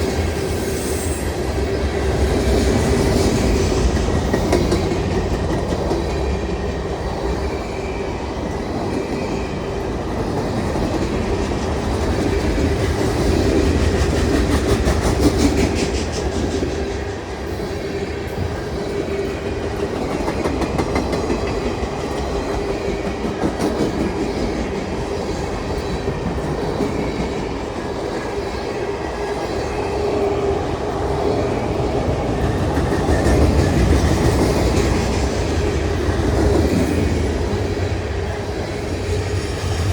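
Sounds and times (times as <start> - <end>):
freight train wheels clattering: 1.2 - 39.9.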